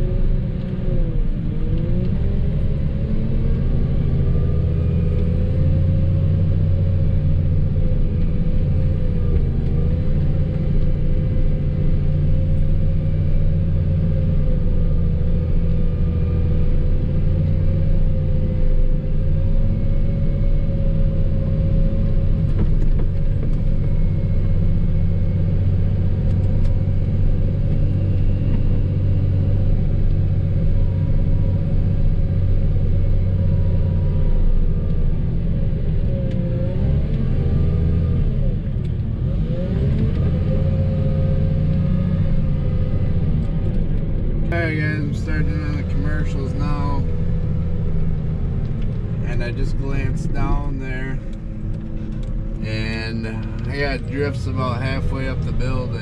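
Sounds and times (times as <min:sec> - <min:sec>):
vehicle engine droning with whine: 0:00.0 - 0:56.0.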